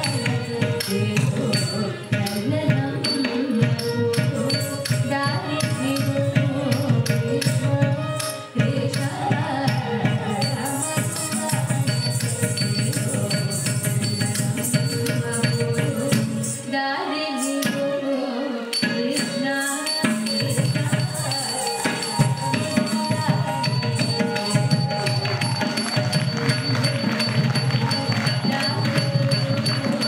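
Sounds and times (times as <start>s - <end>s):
percussion strokes: 0.0s - 18.0s, 18.7s - 30.0s.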